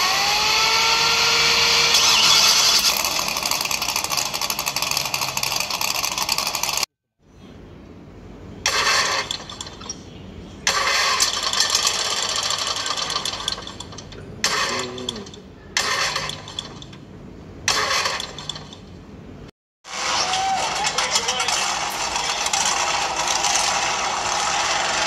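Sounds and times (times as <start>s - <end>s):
simulated engine idling with bursts: 0.0s - 25.0s.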